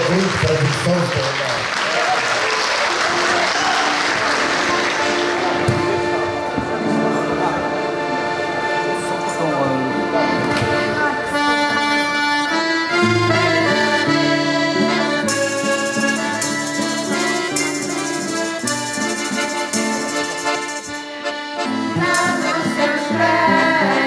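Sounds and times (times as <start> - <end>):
accordions playing folk tune: 3.0 - 24.0
acoustic guitar: 4.2 - 24.0.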